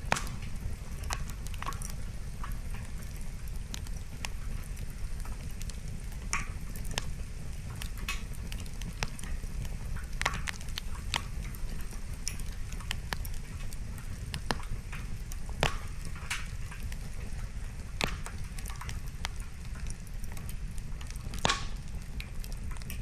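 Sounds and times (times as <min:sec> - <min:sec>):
campfire crackling and popping: 0:00.0 - 0:23.0
low rumble of fire: 0:00.0 - 0:23.0.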